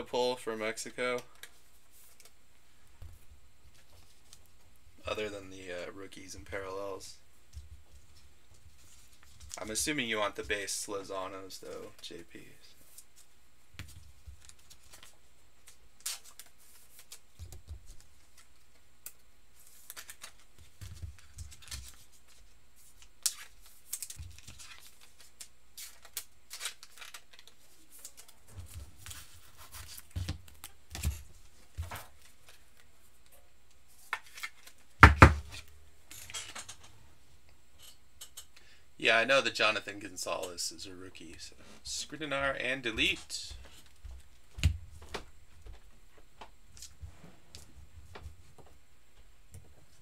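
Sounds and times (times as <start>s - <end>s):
trading cards and sleeves handled: 0.7s - 2.4s, 3.0s - 36.9s, 40.2s - 45.2s.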